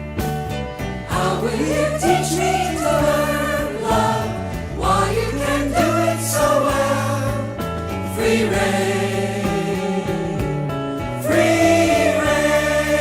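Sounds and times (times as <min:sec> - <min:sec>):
rock band with bass line: 0:00.0 - 0:13.0
voices singing in harmony: 0:01.0 - 0:13.0.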